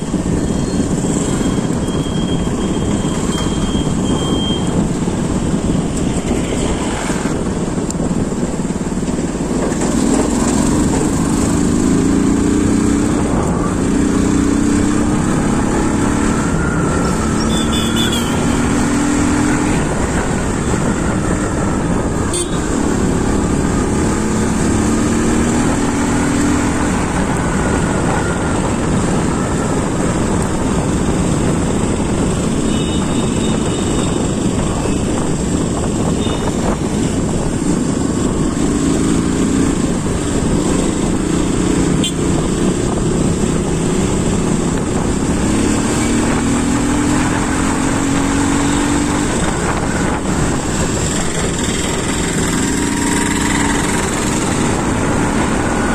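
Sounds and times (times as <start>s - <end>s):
engine running loudly: 0.0s - 55.9s.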